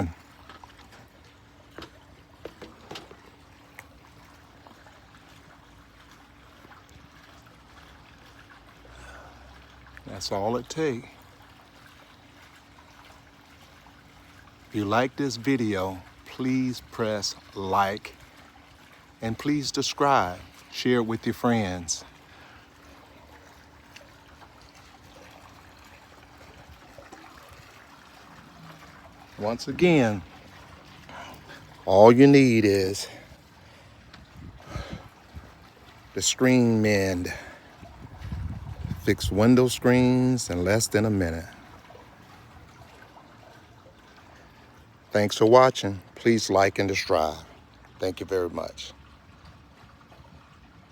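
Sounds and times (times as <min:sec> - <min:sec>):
faint steady background noise: 0:00.0 - 0:50.9
low steady hum: 0:00.0 - 0:50.9
trickle of running water: 0:00.0 - 0:50.9.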